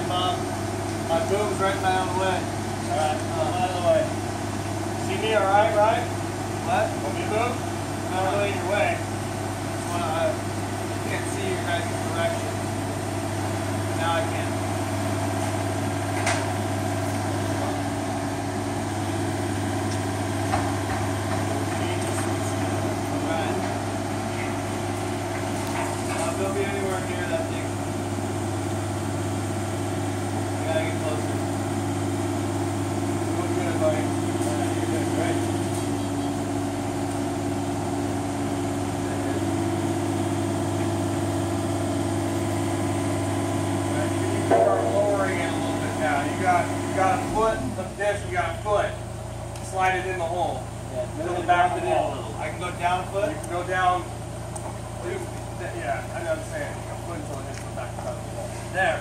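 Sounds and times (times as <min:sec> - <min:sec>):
excavator diesel engine idling: 0:00.0 - 0:59.0.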